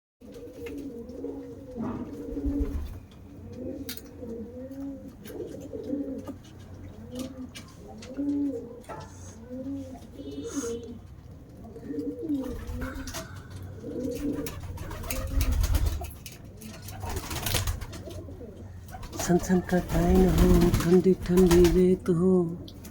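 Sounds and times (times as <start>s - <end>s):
pigeons cooing: 0.2s - 22.9s.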